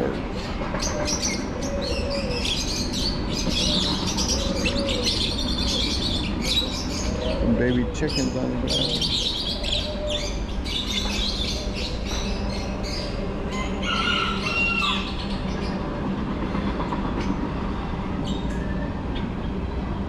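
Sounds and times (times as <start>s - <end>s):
caged birds chirping and squawking: 0.0s - 20.0s
low mechanical hum: 0.0s - 20.0s.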